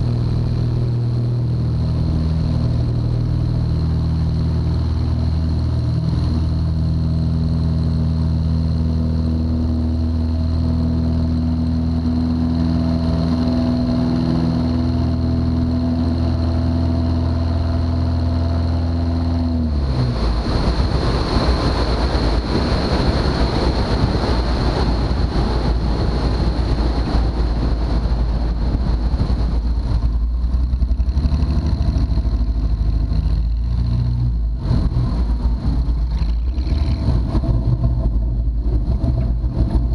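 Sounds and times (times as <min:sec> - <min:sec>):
aircraft engine running: 0:00.0 - 0:39.9
rough uneven engine rumble: 0:00.0 - 0:39.9.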